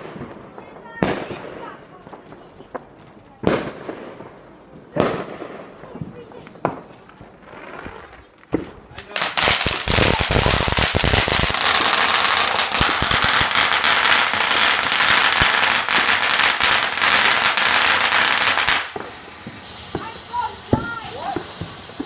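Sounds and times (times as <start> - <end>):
firework bangs: 0.0 - 22.0
firework crackling hiss: 3.9 - 22.0.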